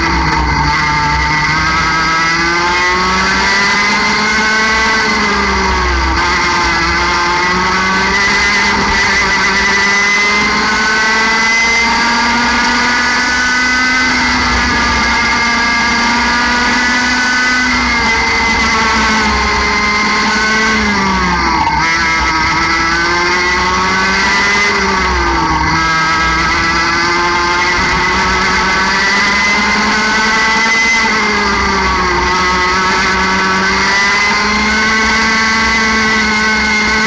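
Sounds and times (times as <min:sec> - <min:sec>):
kart engine revving: 0:00.0 - 0:37.0.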